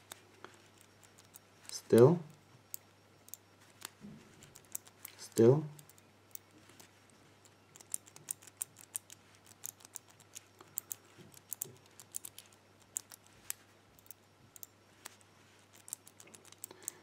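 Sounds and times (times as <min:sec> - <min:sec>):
padlock wheels clicking: 0:00.0 - 0:17.0.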